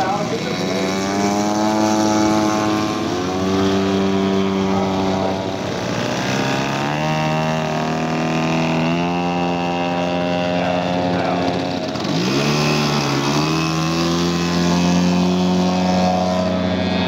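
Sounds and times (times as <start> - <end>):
model propeller engines droning: 0.0 - 17.0.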